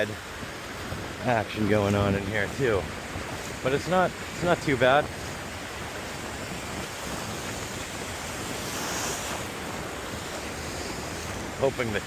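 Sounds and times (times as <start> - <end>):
small waves washing in: 0.0 - 12.0.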